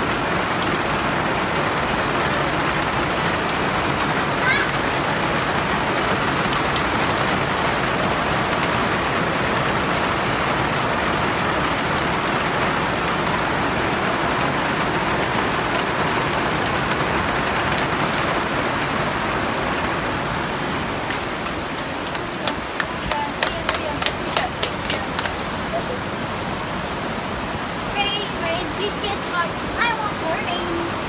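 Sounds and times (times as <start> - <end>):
rain pouring on concrete: 0.0 - 31.0.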